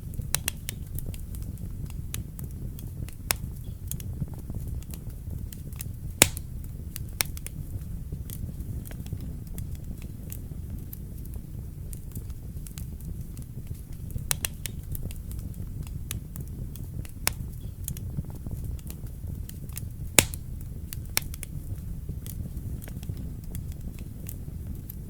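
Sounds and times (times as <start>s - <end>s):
fire crackling and popping: 0.0s - 25.0s
fire rumbling: 0.0s - 25.0s.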